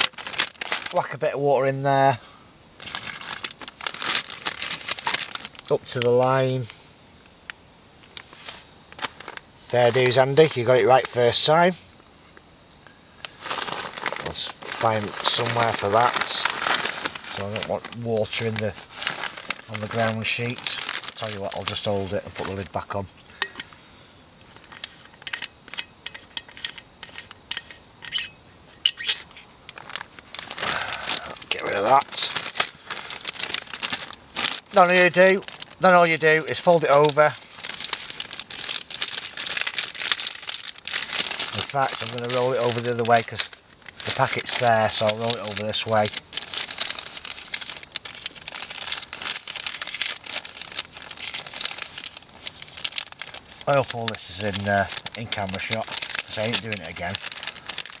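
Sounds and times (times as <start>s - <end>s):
plastic bag crinkling: 0.0s - 2.2s, 2.8s - 6.7s, 8.1s - 11.6s, 13.2s - 23.8s, 24.4s - 28.3s, 28.9s - 58.0s.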